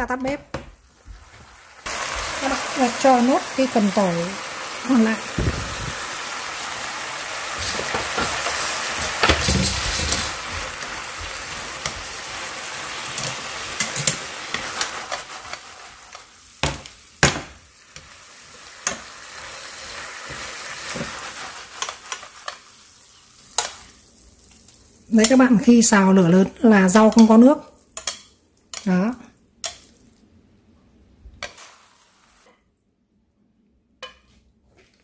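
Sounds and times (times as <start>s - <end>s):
vegetables sizzling in a hot pan: 0.8s - 30.0s, 31.4s - 32.6s.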